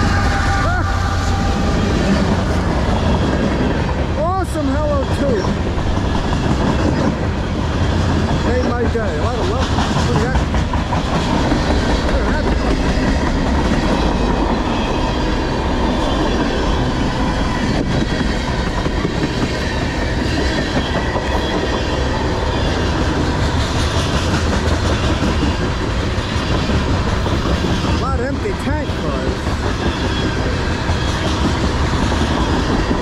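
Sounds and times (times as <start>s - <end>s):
freight train wheels rolling: 0.0s - 33.0s.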